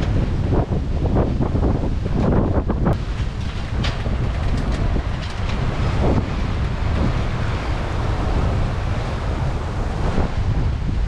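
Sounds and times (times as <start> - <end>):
rush of waves: 0.0 - 11.0
wind buffeting microphone: 0.0 - 11.0.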